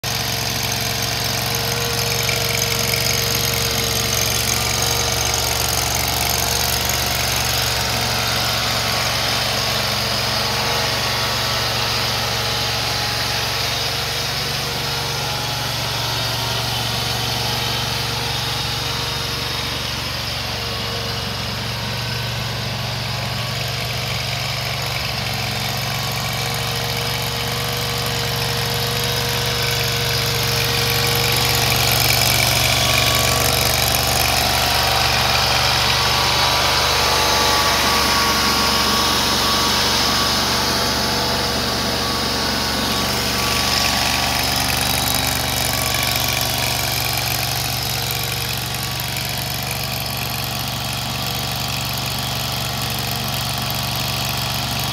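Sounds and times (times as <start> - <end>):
small gasoline engine running: 0.0 - 54.9.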